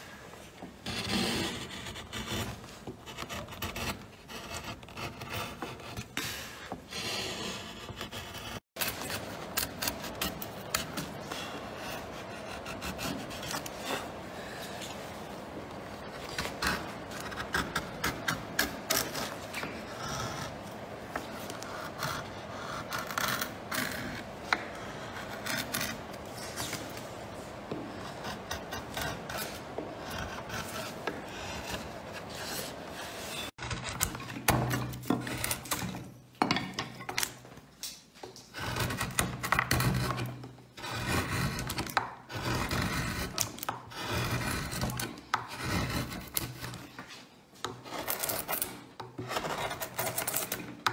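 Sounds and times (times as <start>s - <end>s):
chisel scraping wood: 0.8s - 37.4s, 38.4s - 50.9s.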